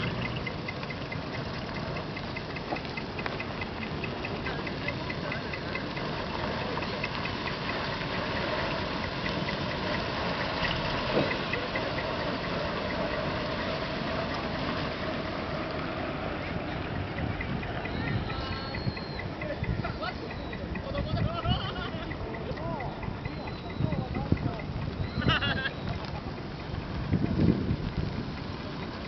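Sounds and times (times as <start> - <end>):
diesel truck engine idling: 0.0 - 29.0
faint high ticking: 0.0 - 29.0.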